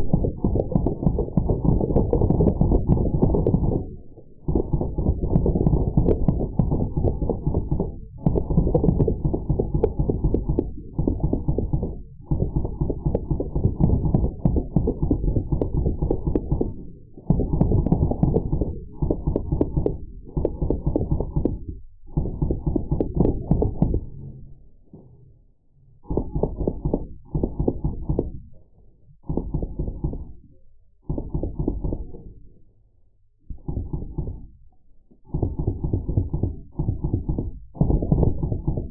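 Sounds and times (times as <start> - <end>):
slowed gunfire thuds: 0.0 - 24.2, 26.0 - 28.5, 29.2 - 32.4, 33.5 - 34.6, 35.2 - 38.9.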